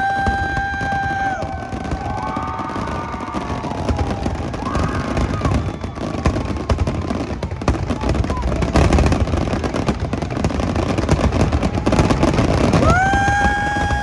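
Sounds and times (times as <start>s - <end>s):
firework shell bursts and crackles: 0.0s - 14.0s
firework whistles: 0.0s - 14.0s.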